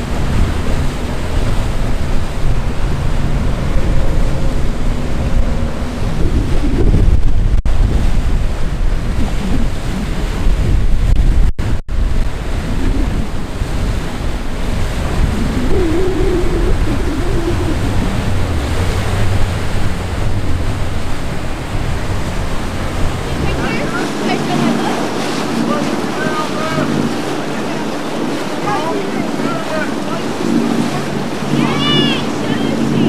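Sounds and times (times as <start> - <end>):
outboard engines droning: 0.0 - 10.8, 11.9 - 33.0
boat wakes rushing: 0.0 - 33.0
turbulent water churning: 0.0 - 33.0
wind buffeting microphone: 0.0 - 33.0.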